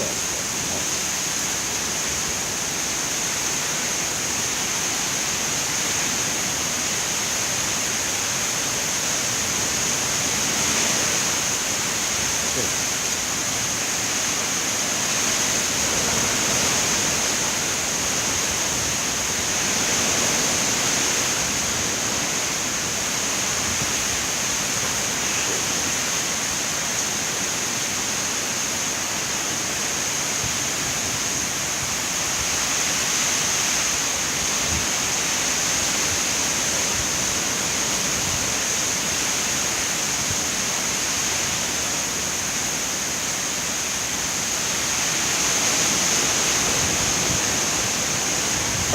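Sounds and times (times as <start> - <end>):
strong wind with rain: 0.0 - 48.9.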